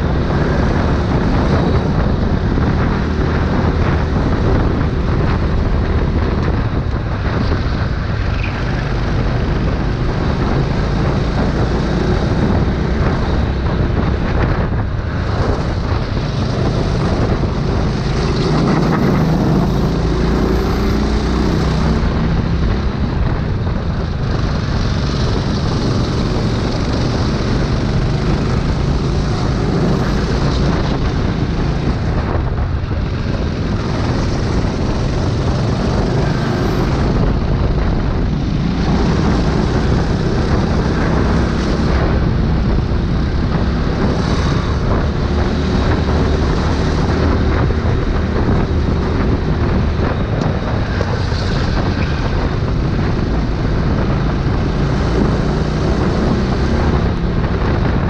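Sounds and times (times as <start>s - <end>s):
go-kart engine running hard: 0.0s - 58.0s
wind rushing over microphone: 0.0s - 58.0s.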